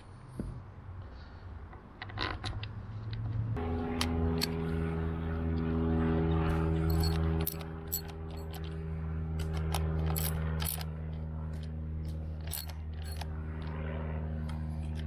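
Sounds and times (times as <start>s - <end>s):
low motor hum: 2.4s - 15.0s.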